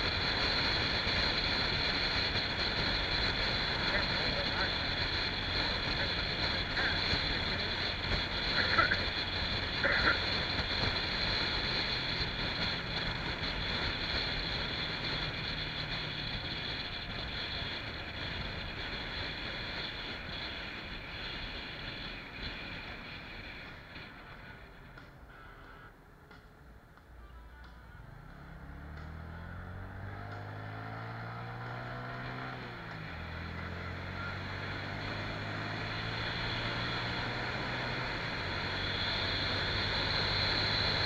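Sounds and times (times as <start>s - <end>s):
motorcycle engine riding: 0.0s - 41.0s.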